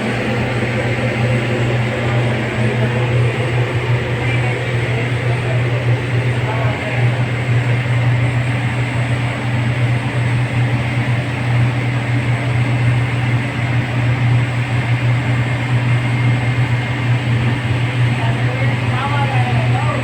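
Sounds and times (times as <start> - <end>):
boiler plant low hum: 0.0 - 20.0
rushing of fans and burner: 0.0 - 20.0.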